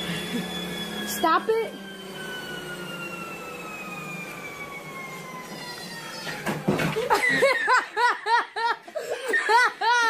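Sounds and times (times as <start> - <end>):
treadmill motor whining: 0.0 - 10.0.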